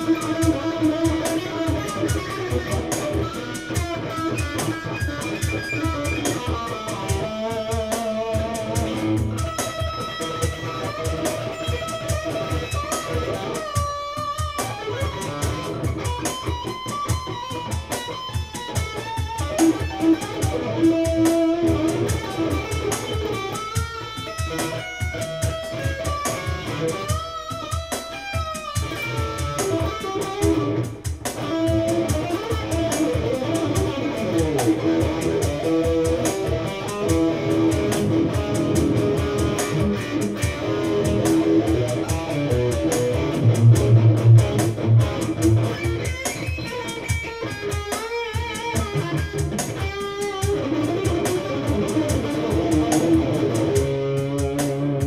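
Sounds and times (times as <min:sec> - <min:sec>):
electric guitar jamming: 0:00.0 - 0:55.0.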